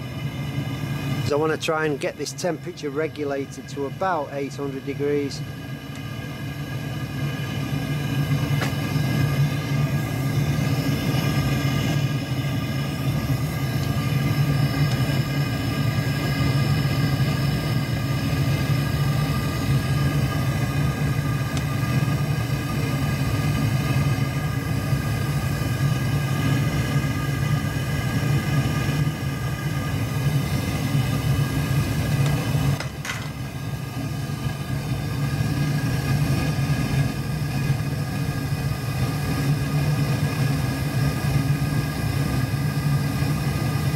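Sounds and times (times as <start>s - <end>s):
gas burner rushing: 0.0s - 43.9s
burner click: 0.4s - 40.8s.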